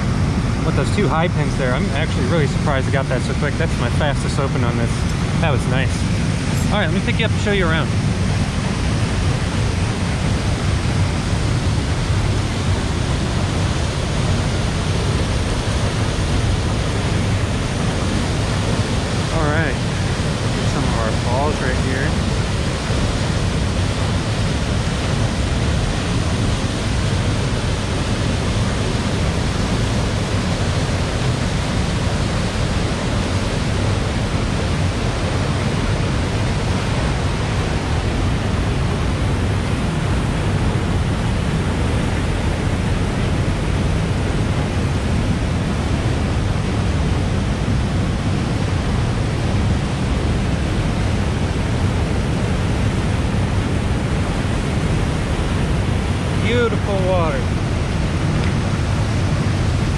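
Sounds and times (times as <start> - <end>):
waterfall rushing: 3.7 - 59.9.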